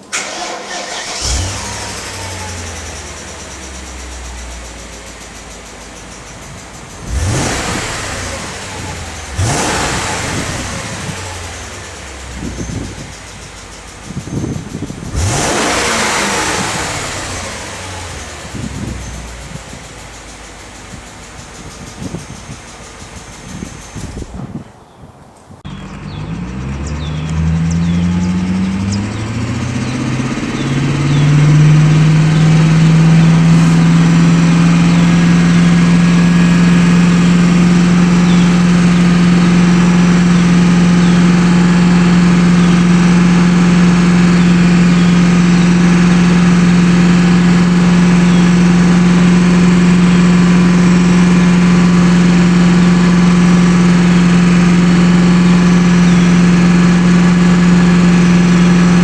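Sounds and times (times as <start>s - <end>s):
car engine starting and idling: 0.0s - 59.0s.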